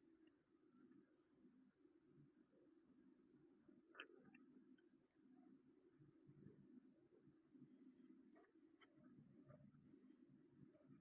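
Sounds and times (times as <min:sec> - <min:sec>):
faint high-pitched hiss: 0:00.0 - 0:11.0.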